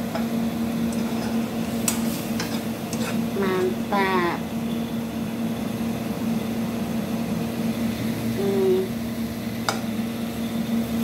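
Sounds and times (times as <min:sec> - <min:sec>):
kitchen hum: 0:00.0 - 0:11.0.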